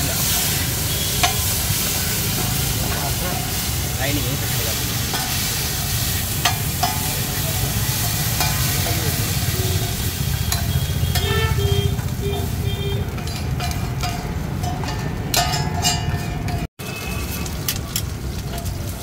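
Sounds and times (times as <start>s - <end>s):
chicken sizzling on griddle: 0.0s - 14.6s, 16.8s - 19.0s
metal spatula scraping: 0.0s - 18.1s
spatula clinking on griddle: 0.2s - 16.7s.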